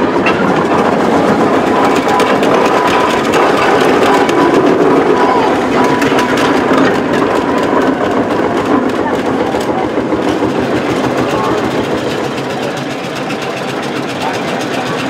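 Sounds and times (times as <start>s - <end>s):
steam traction engines clattering: 0.0s - 15.0s.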